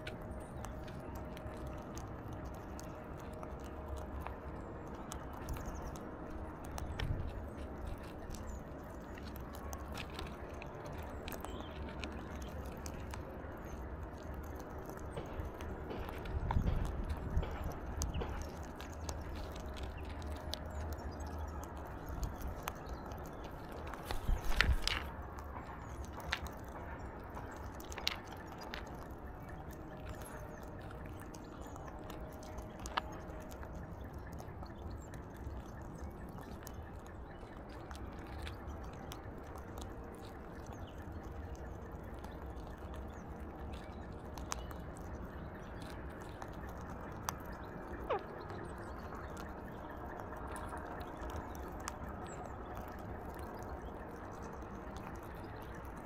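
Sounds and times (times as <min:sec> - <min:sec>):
bird beak and feet tapping: 0:00.0 - 0:56.0
low background hum: 0:00.0 - 0:56.0.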